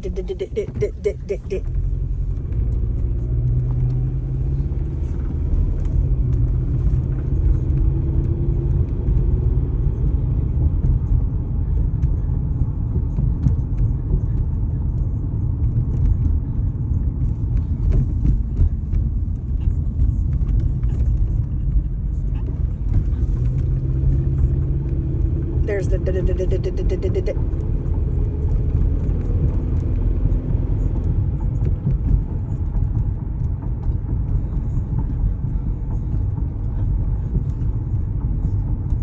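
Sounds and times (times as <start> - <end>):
road noise: 0.0 - 39.0
rough car engine rumble: 0.0 - 39.0.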